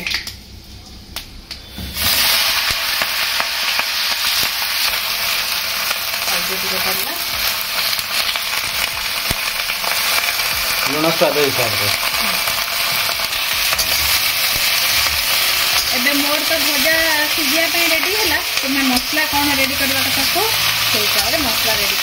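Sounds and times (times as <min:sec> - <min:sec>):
vegetables sizzling in hot oil: 0:01.8 - 0:22.0.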